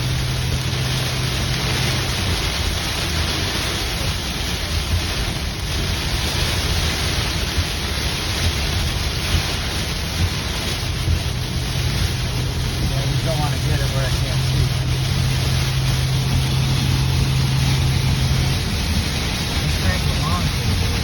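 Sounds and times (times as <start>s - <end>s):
heavy rain on a car: 0.0s - 21.0s
low road rumble: 0.0s - 21.0s.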